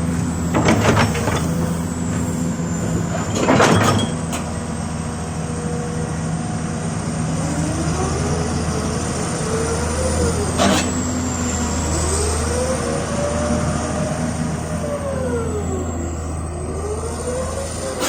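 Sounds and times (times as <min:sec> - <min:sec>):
hydraulic whine: 0:00.0 - 0:06.5, 0:07.3 - 0:18.0
excavator diesel drone: 0:00.0 - 0:18.0.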